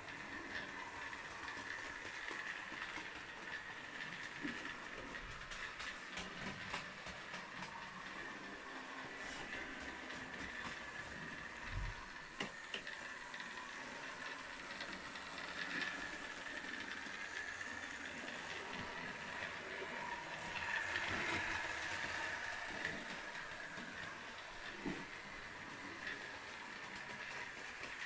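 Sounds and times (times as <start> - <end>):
model train electric motor whine: 0.0 - 28.0
wheels rolling on rails: 0.0 - 28.0.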